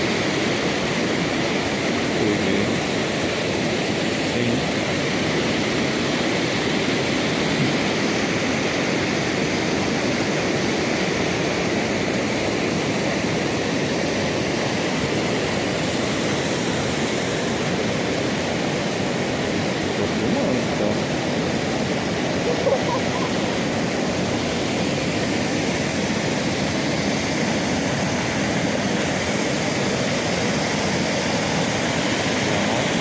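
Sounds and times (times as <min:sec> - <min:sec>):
river water tumbling over rocks: 0:00.0 - 0:33.0.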